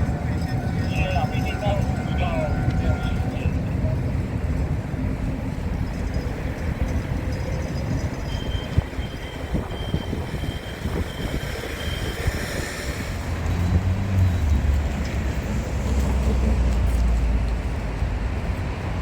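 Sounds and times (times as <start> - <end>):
wheels clicking on track: 0.0 - 18.9
rail vehicle engine rumble: 0.0 - 19.0.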